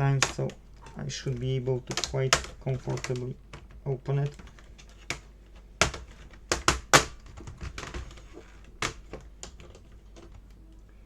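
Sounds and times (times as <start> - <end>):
small hard parts clicking: 0.0 - 10.9.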